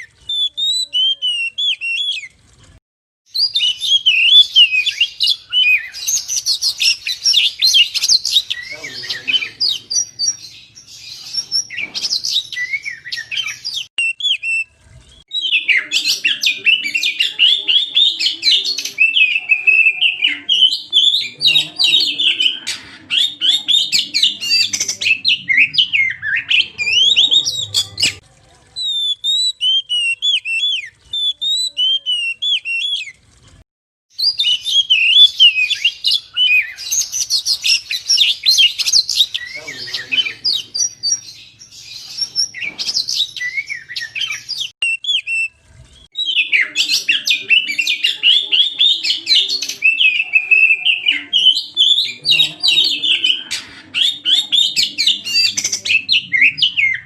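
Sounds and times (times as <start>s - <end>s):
bird singing chirps and trills: 3.3s - 28.2s, 28.8s - 33.2s, 34.2s - 57.0s.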